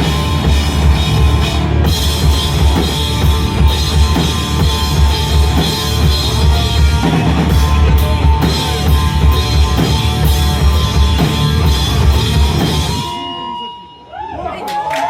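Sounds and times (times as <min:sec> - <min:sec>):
live band playing loud music: 0:00.0 - 0:14.1.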